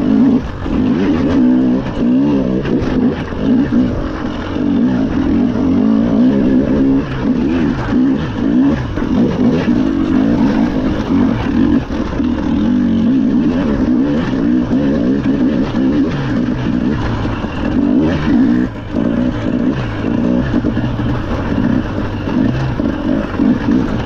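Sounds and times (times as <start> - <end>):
rally car engine running hard: 0.0 - 24.0.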